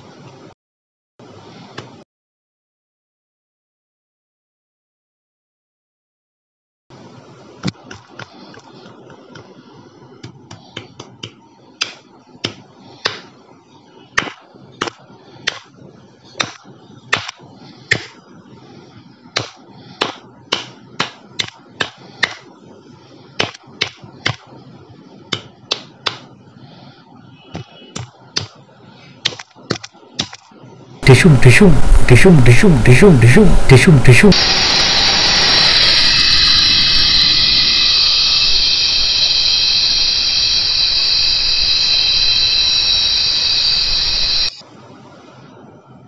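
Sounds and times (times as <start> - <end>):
steady background noise: 6.9 - 46.0.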